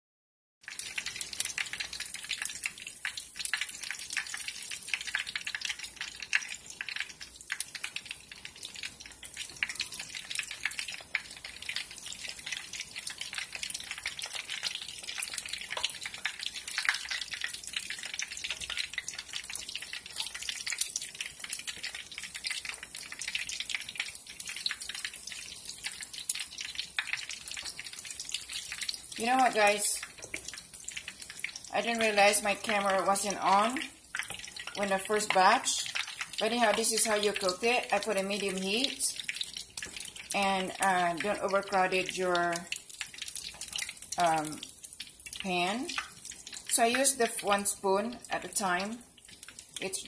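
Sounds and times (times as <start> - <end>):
food deep-frying in oil: 0.6 - 50.0.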